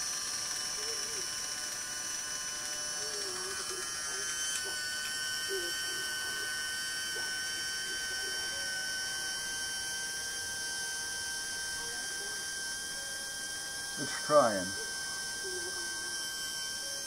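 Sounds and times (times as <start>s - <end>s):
water pump motor whining: 0.0s - 17.0s.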